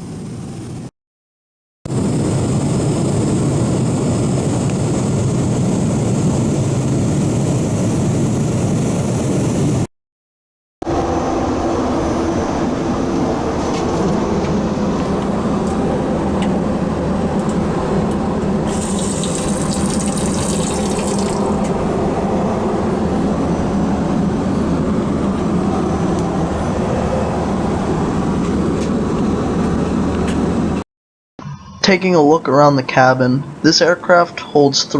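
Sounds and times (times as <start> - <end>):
airliner cabin engine rush: 0.0 - 0.9, 1.9 - 9.9, 10.8 - 30.8.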